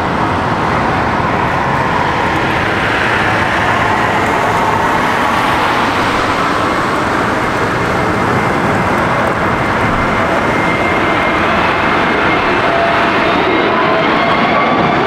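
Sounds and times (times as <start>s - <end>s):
faint high whine: 0.0s - 15.0s
jet engines running: 0.0s - 15.0s.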